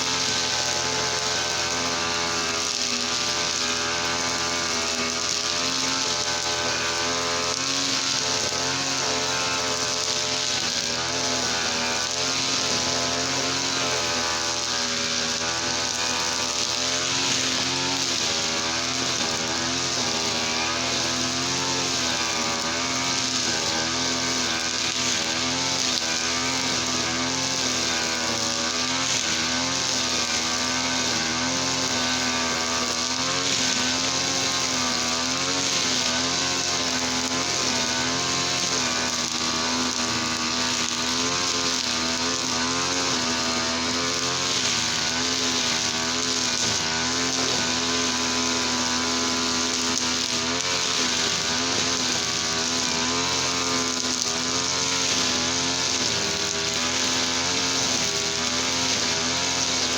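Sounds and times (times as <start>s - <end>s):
brush cutter engine running: 0.0s - 59.9s.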